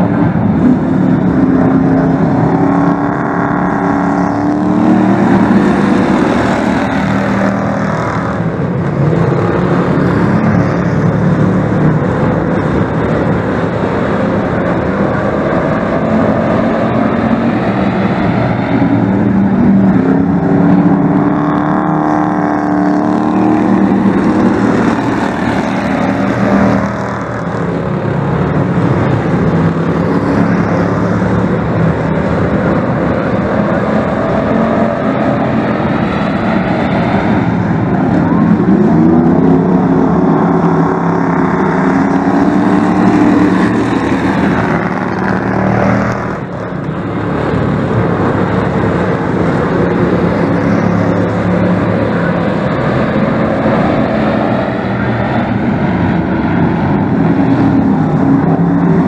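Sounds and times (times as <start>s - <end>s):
race truck engines revving: 0.0s - 59.0s.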